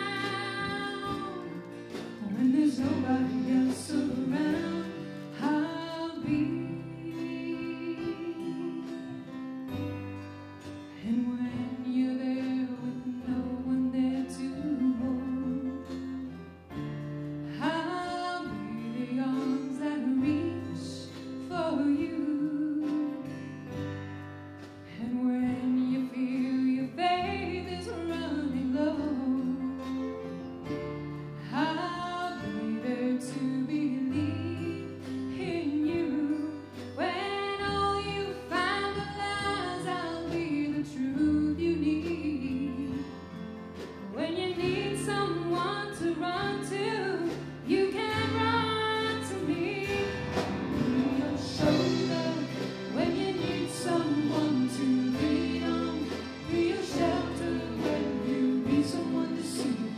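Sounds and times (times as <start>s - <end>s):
woman singing: 0.0s - 9.5s, 11.0s - 16.8s, 17.5s - 23.6s, 24.8s - 30.4s, 31.4s - 59.9s
acoustic guitars: 0.0s - 59.9s
drums: 0.0s - 59.9s.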